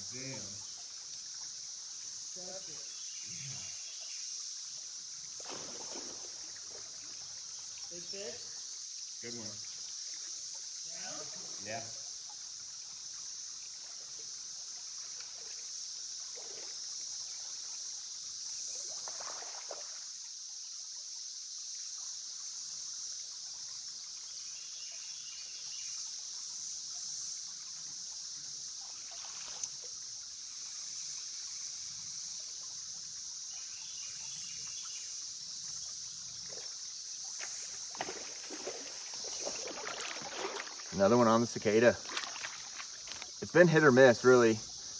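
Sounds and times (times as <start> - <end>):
cicadas buzzing: 0.0 - 44.9.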